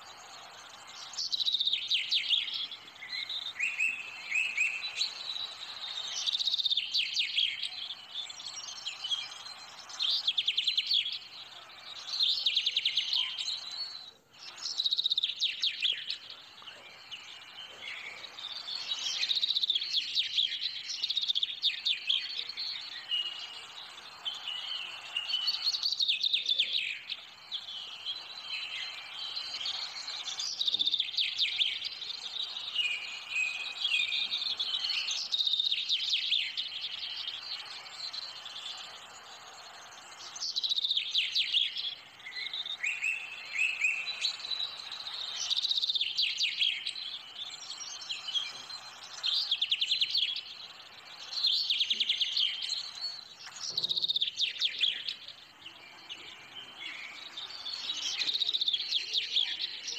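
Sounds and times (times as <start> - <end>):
steady hiss: 0.0 - 54.4
birds chirping and singing: 0.0 - 59.9.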